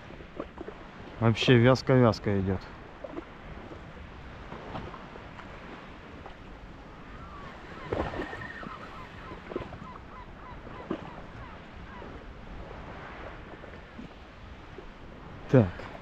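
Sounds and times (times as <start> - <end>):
sea lapping: 0.0 - 16.0
wind on microphone: 2.6 - 16.0.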